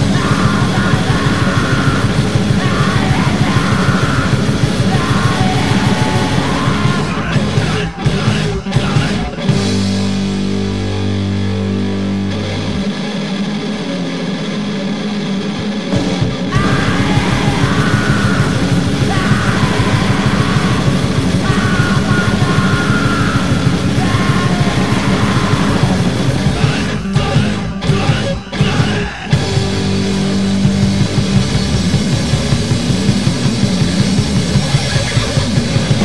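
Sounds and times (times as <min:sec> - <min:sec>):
distorted guitar and bass: 0:00.0 - 0:36.0
hardcore punk band playing: 0:00.0 - 0:36.0.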